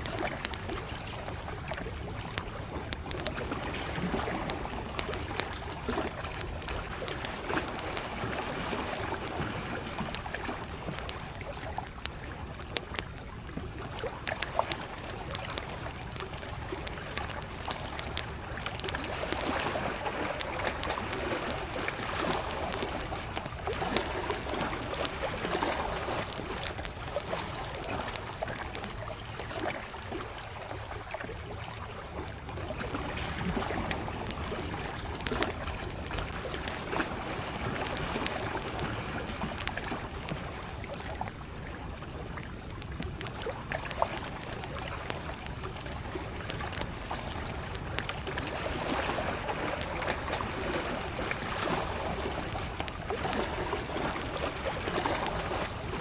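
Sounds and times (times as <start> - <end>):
campfire crackling: 0.0 - 56.0
small waves lapping: 0.0 - 56.0.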